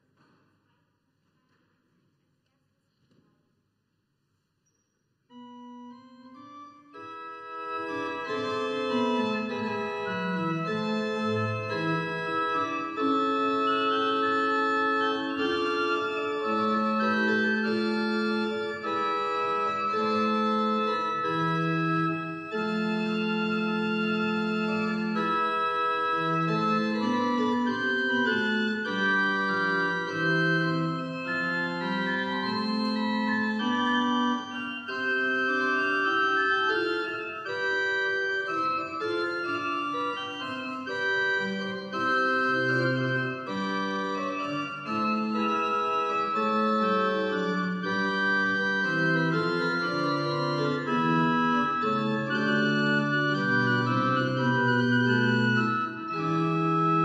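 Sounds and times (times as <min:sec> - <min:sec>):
church organ chords: 0:05.3 - 0:57.0.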